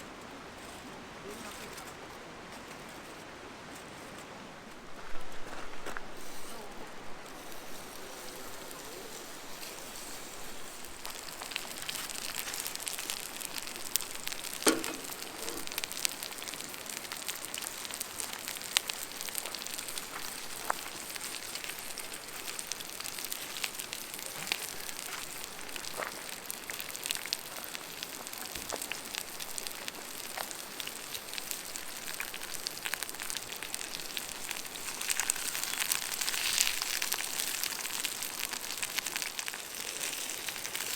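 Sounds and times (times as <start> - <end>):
campfire crackles and pops: 4.2 - 40.9
paella sizzling in a pan: 6.1 - 40.9.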